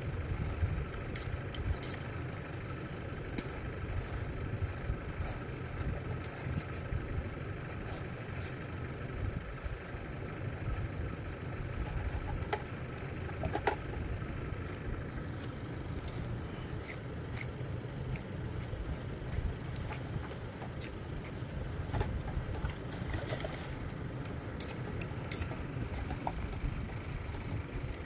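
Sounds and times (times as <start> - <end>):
tractor engine idling: 0.0 - 28.0.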